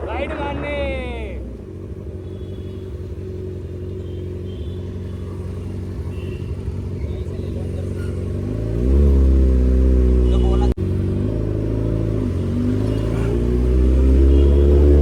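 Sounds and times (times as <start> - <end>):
sportbike engine idling and revving: 0.0 - 15.0.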